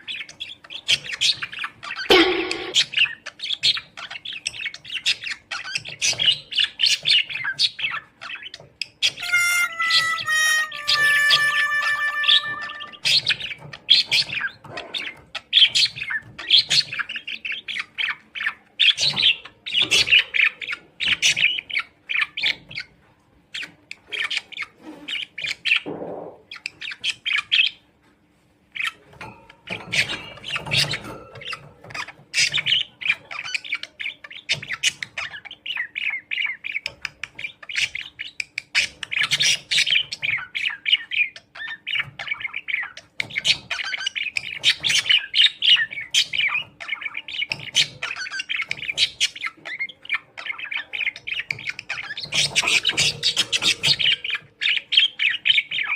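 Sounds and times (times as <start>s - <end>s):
birds chirping and squawking: 0.0s - 55.9s.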